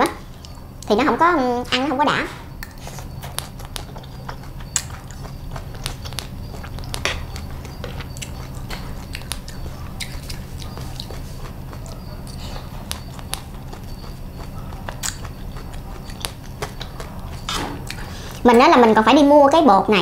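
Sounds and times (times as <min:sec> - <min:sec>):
crunchy chewing: 0:00.0 - 0:01.8, 0:02.4 - 0:19.7.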